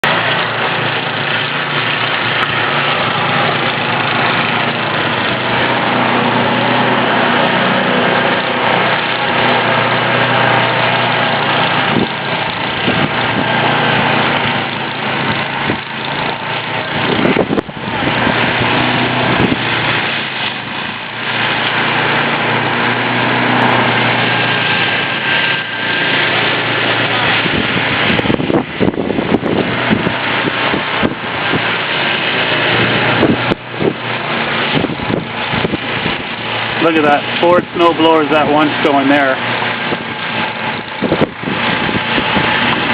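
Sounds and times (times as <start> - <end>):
snowblower engines running: 0.0 - 42.9.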